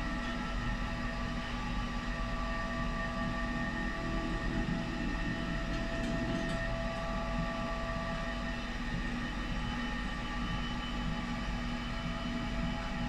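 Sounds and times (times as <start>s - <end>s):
blower motor hum: 0.0s - 13.0s.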